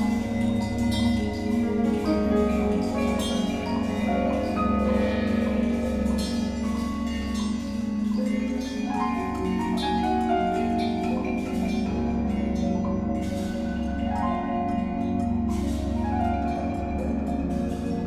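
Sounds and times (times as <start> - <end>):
marimbas and vibraphones playing: 0.0 - 18.0.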